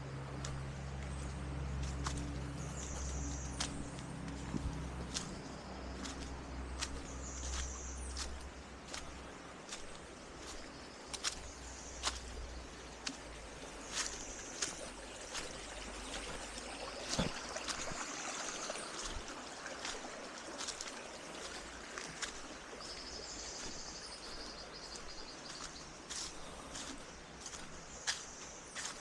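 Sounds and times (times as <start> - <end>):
stream running: 0.0 - 29.0.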